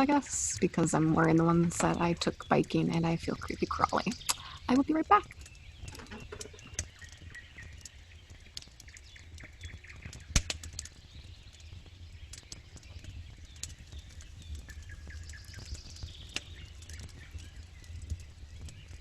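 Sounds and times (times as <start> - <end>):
campfire crackling: 0.0 - 19.0
fire popping and snapping: 0.0 - 19.0.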